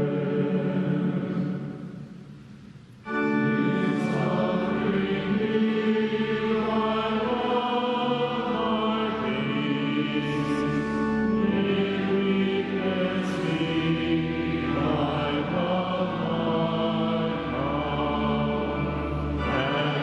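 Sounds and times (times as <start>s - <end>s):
choir singing a hymn: 0.0s - 2.0s, 3.1s - 20.0s
organ: 0.0s - 2.1s, 3.0s - 20.0s.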